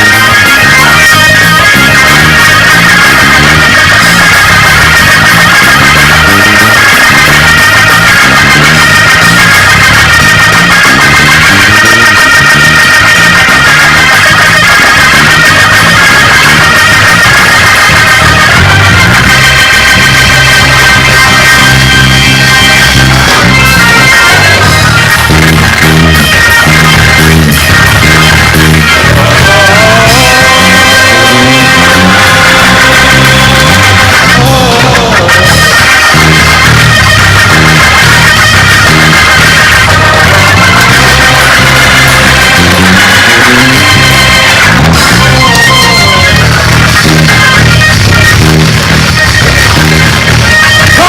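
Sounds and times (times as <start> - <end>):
bass line: 0.0 - 51.0
church band music: 0.0 - 51.0.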